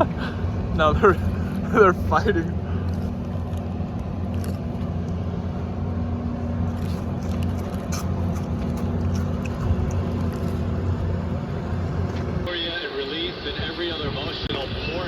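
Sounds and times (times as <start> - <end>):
outboard motor droning: 0.0 - 12.6.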